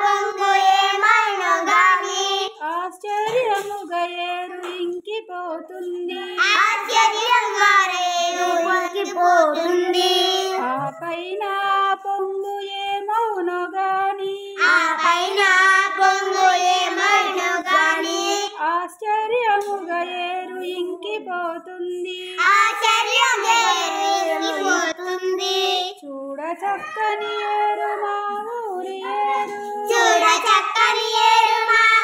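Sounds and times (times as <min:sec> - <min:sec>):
child singing: 0:00.0 - 0:13.8, 0:14.5 - 0:18.7, 0:21.8 - 0:32.0.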